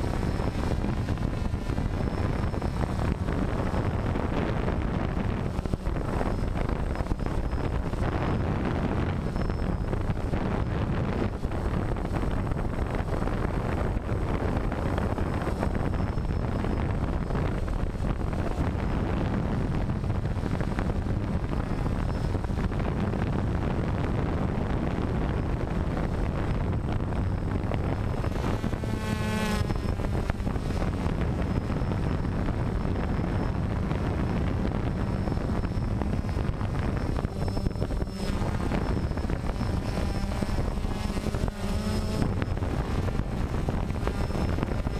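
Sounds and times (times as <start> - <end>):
drone propellers buzzing: 0.0 - 44.9
wavering whine: 0.0 - 44.9
wind noise on microphone: 0.0 - 44.9.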